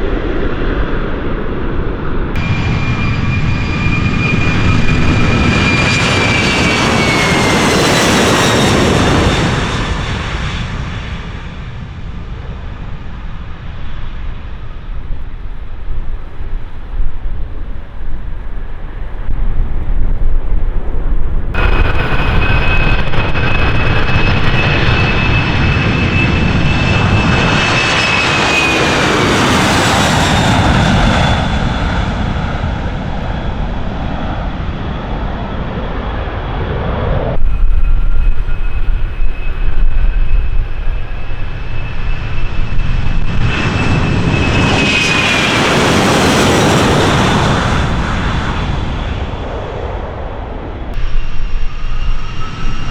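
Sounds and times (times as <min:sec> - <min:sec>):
jet airliner passing: 0:00.0 - 0:52.9.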